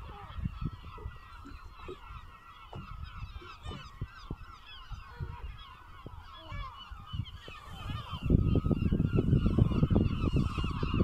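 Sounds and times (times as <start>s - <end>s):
seabirds calling: 0.0s - 11.0s.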